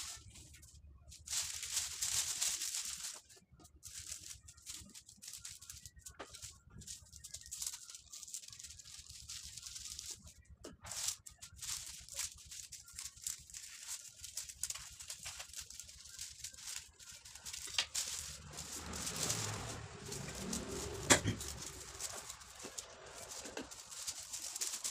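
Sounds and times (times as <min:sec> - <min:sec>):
foil paper crinkling: 0:00.0 - 0:24.9.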